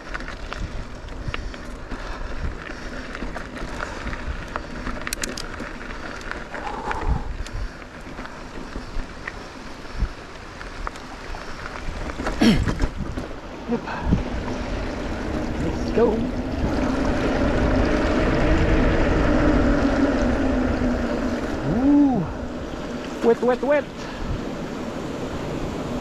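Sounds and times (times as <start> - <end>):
bicycle clatter: 0.0 - 21.9
bicycle clicks and rattles: 0.0 - 25.5
bicycle tyre and trail noise: 0.0 - 26.0.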